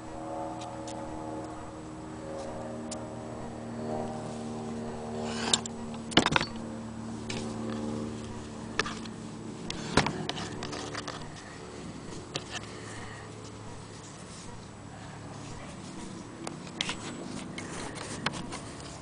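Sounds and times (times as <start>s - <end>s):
low droning hum: 0.0s - 19.0s.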